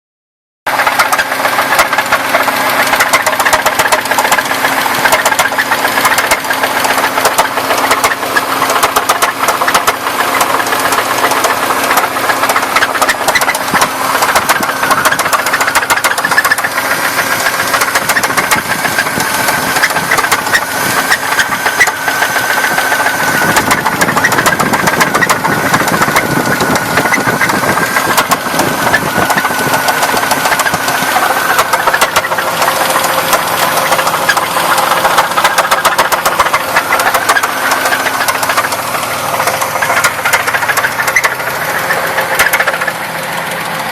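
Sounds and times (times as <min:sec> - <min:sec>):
engine running: 0:00.7 - 0:43.9
loud rapid engine knock: 0:00.7 - 0:43.9.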